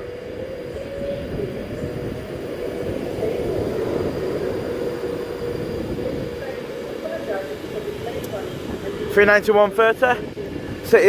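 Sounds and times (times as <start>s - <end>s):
electric train humming: 0.0s - 11.0s
rumble of train wheels: 0.0s - 11.0s.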